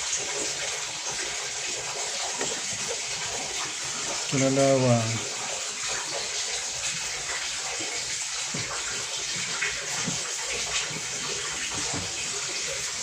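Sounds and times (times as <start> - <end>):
water running into a tub: 0.0 - 13.0.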